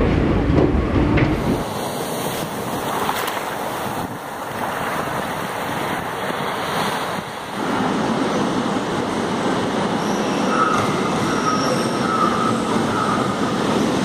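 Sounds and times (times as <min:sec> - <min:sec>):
train rushing in motion: 0:00.0 - 0:14.0
wind buffeting microphone: 0:00.0 - 0:14.0.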